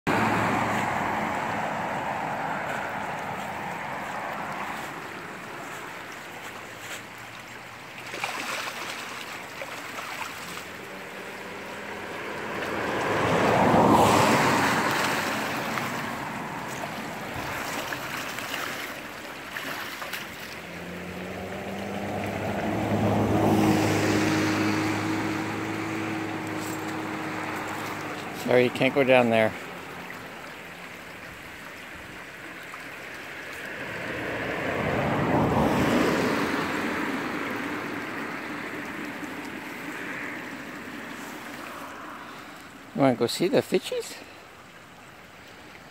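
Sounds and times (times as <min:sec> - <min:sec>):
low engine hum: 0:00.0 - 0:43.0
vehicles passing: 0:00.0 - 0:45.9
creek water rippling over stones: 0:00.1 - 0:45.9.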